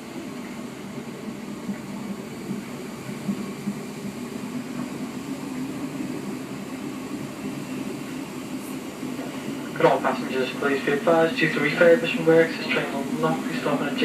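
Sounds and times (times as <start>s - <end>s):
electric train rumble: 0.0s - 14.0s.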